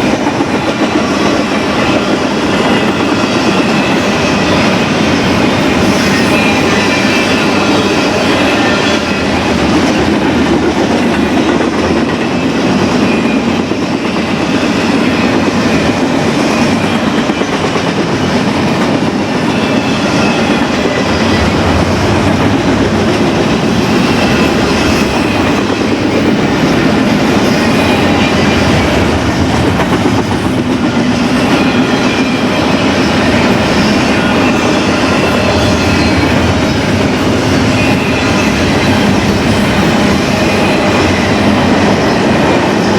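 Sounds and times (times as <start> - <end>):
train wheels clattering over rail: 0.0 - 42.9
high wheel squeal: 1.0 - 11.5, 12.2 - 42.9.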